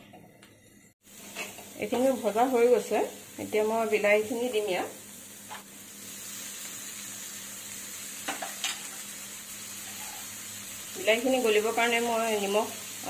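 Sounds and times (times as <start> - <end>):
paste sizzling in a wok: 1.0 - 13.0.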